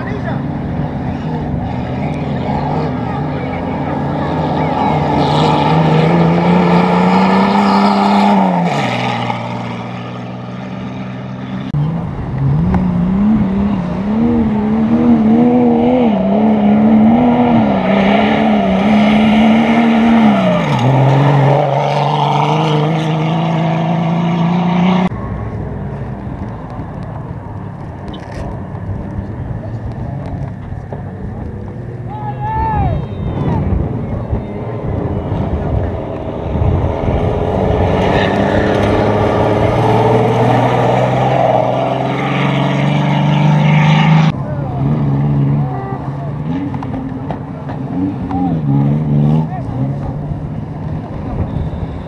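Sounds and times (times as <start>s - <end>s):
race car engine revving: 0.0s - 27.4s, 33.0s - 52.0s.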